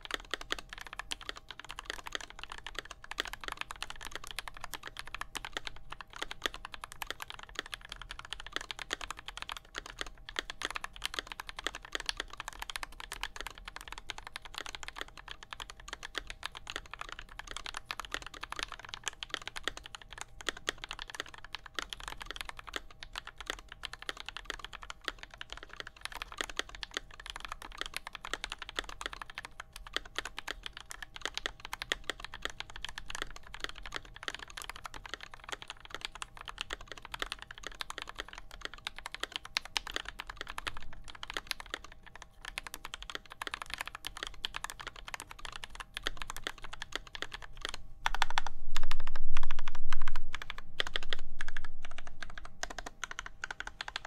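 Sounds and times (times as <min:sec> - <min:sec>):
mechanical keyboard typing: 0:00.0 - 0:54.0.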